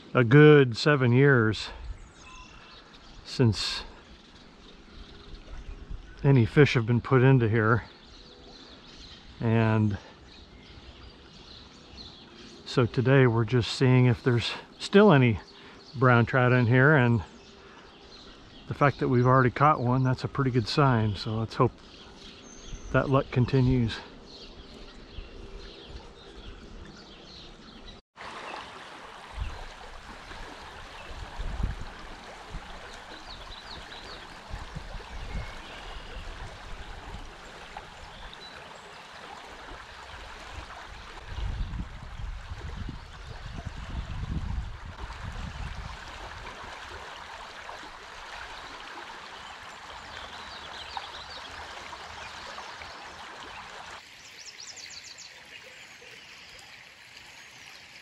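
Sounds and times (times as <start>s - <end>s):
creek flowing over riffles: 0.0s - 58.0s.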